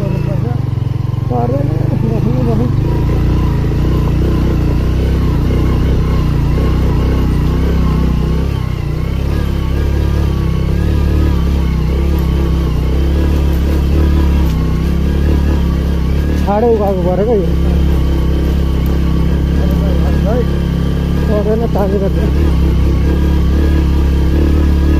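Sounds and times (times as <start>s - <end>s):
motorbike engine rumbling: 0.0s - 24.9s.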